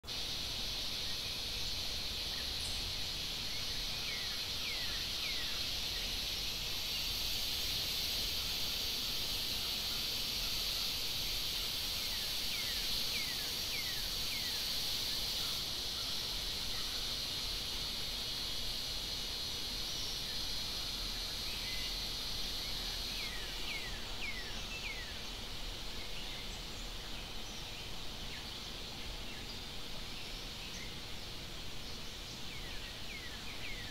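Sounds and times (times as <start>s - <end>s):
insect chorus: 0.0s - 33.9s.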